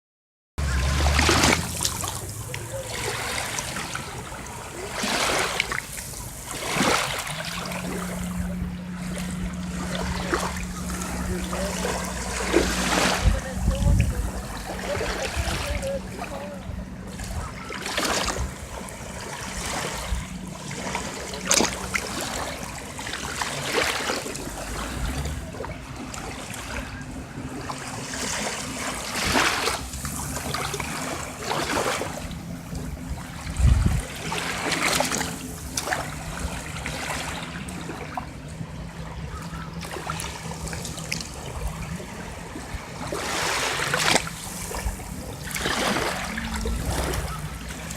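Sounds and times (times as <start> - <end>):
waves lapping at shore: 0.6 - 47.9.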